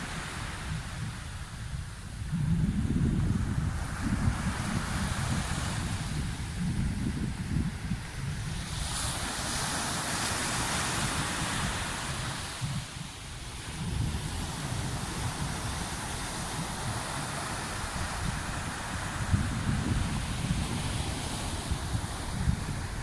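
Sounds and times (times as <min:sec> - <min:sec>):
sea waves washing in: 0:00.0 - 0:23.0
wind buffeting microphone: 0:00.0 - 0:23.0.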